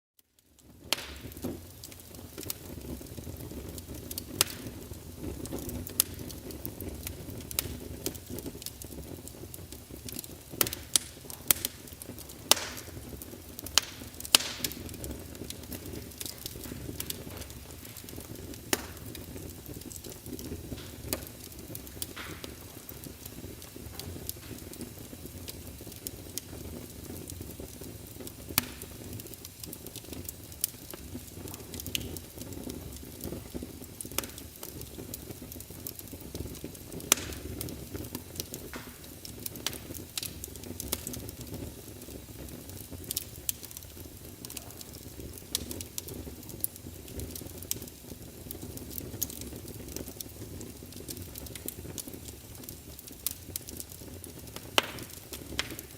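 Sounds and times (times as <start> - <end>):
logs crackling and popping: 0.2 - 55.9
low rumble of flames: 0.2 - 55.9.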